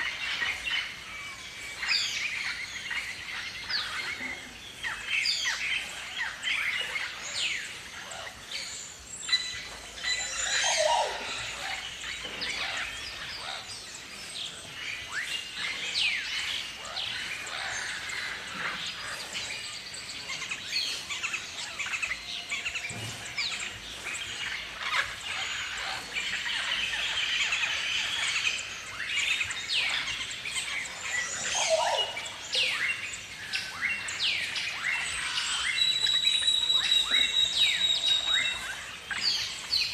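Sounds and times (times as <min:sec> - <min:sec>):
flock of cockatoos calling: 0:00.0 - 0:39.9.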